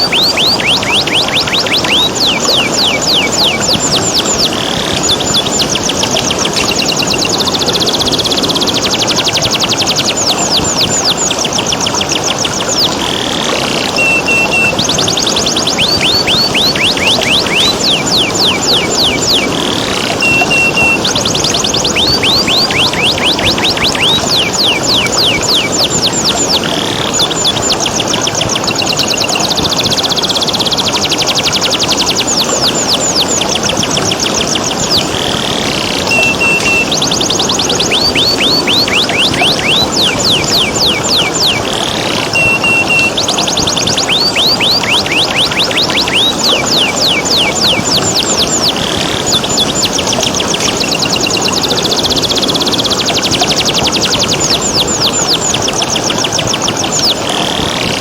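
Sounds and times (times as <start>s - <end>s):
canary singing and trilling: 0.0s - 58.0s
running water: 0.0s - 58.0s.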